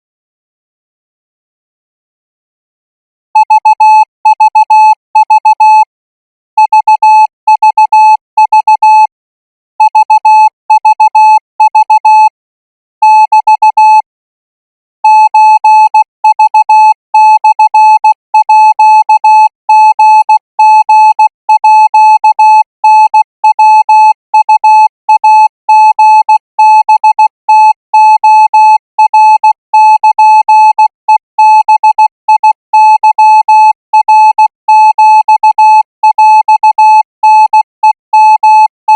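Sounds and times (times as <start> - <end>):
morse code beeps: 3.4 - 5.9, 6.6 - 9.1, 9.8 - 12.4, 13.0 - 14.1, 15.0 - 38.9.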